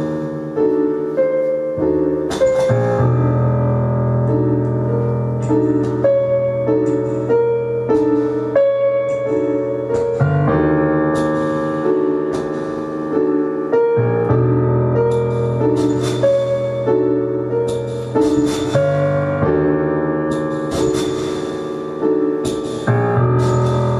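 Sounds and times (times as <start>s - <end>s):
keyboard music in piano sound: 0.0s - 23.9s.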